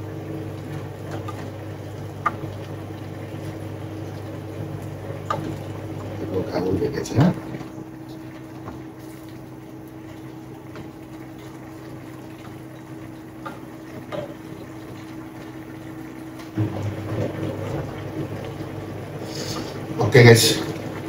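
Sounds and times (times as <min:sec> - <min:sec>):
saucepan bubbling: 0:00.0 - 0:21.0.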